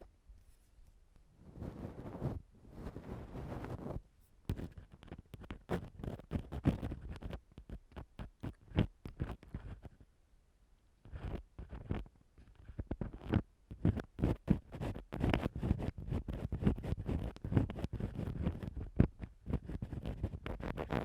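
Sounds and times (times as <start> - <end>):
tool scratching on microphone: 1.5 - 10.0, 11.1 - 21.0.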